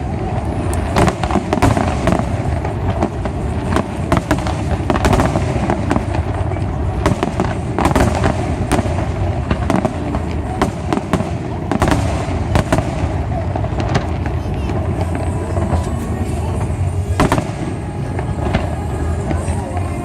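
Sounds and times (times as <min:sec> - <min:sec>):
fireworks bangs and cracks: 0:00.0 - 0:20.0
low rumble of explosions: 0:00.0 - 0:20.0.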